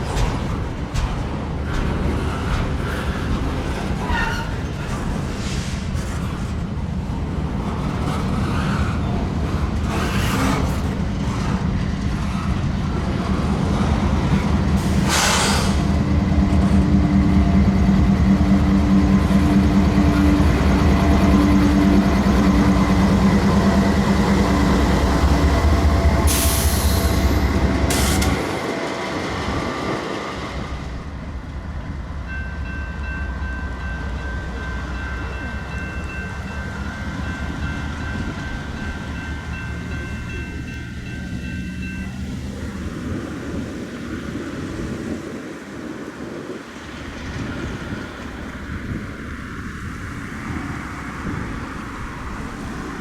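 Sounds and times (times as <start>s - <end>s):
train rumbling past: 0.0s - 53.0s.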